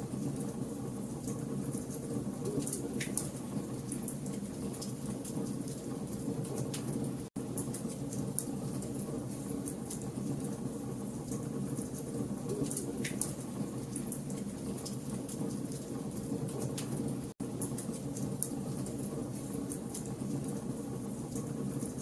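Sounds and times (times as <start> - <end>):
low rumble of flames: 0.0 - 22.0
fire crackling and popping: 0.1 - 22.0.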